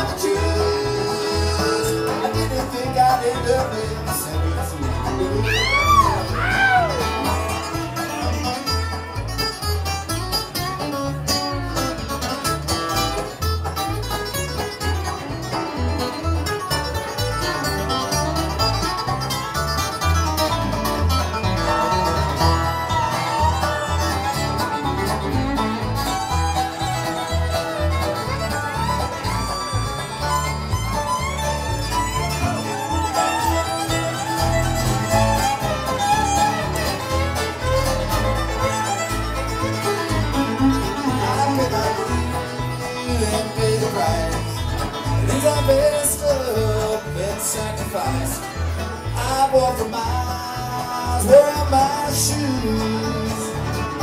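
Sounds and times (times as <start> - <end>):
acoustic guitar: 0.0 - 54.0
banjo: 0.0 - 54.0
bass: 0.0 - 54.0
fiddle: 0.0 - 54.0.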